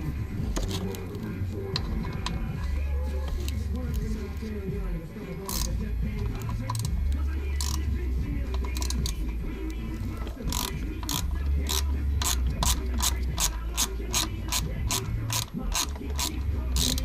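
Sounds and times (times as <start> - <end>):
steady low hum: 0.0 - 17.0
ratchet wrench clicking: 0.5 - 4.5, 5.4 - 17.0.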